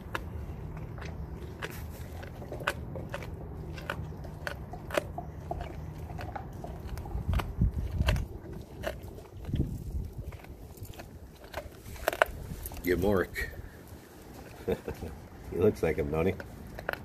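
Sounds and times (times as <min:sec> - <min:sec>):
dog gnawing on bone: 0:00.0 - 0:13.2, 0:16.0 - 0:17.0.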